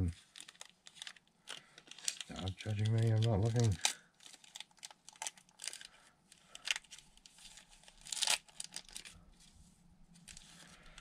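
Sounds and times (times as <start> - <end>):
wrapper crinkling and tearing: 0.1 - 9.3, 10.2 - 11.0.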